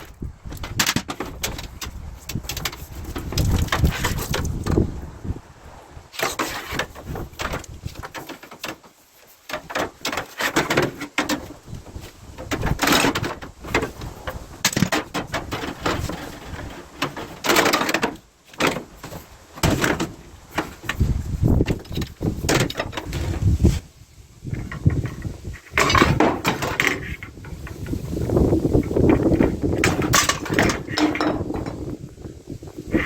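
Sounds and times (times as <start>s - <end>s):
copper pipe clattering and scraping: 0.0s - 4.9s, 6.1s - 33.0s.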